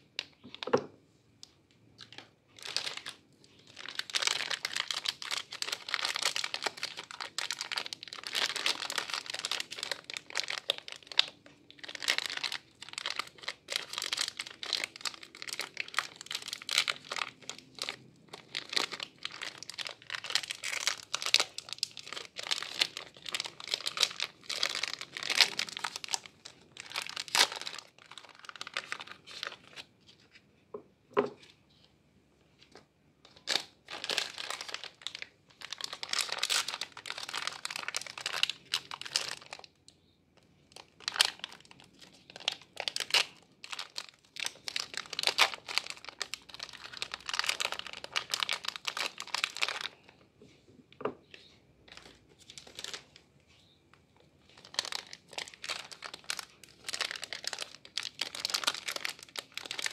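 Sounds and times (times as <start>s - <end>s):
plastic wrapper crinkling and tearing: 0.0s - 0.8s, 1.4s - 30.4s, 32.6s - 39.8s, 40.7s - 50.2s, 51.2s - 53.2s, 54.4s - 59.9s.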